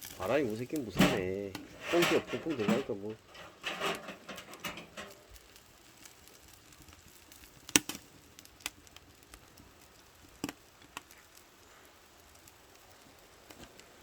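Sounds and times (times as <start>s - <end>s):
fire pops: 0.0s - 14.0s
wood fire hissing: 0.0s - 14.0s.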